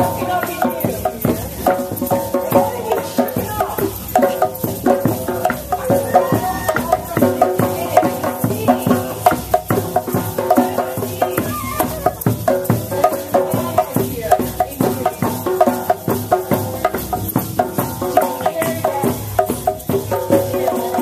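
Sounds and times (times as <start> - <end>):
hand drums and shakers: 0.0 - 21.0.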